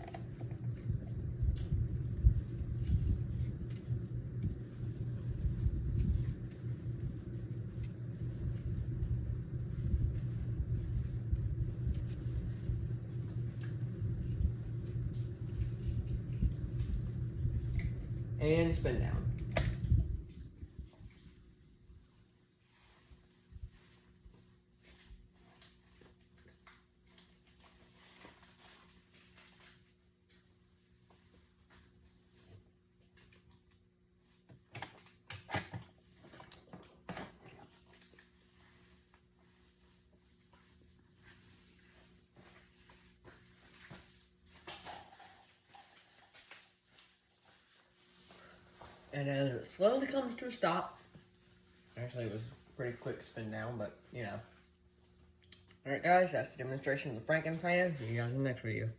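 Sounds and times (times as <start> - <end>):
ceiling fan low rumble and hum: 0.0 - 58.9.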